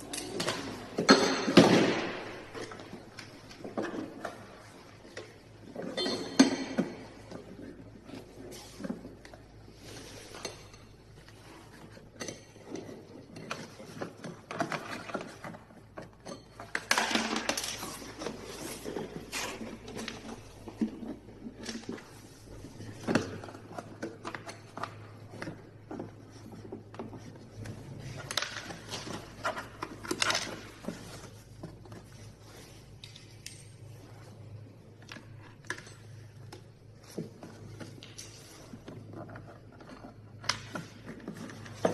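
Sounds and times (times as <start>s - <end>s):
hand tools and metal parts clinking: 0.0s - 41.9s.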